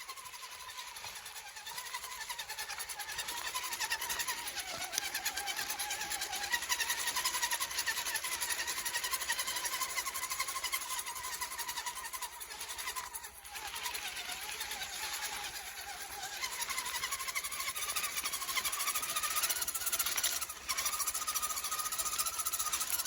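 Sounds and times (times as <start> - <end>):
electric motor whining: 0.0 - 23.0
rapid rough rattle: 0.0 - 23.0.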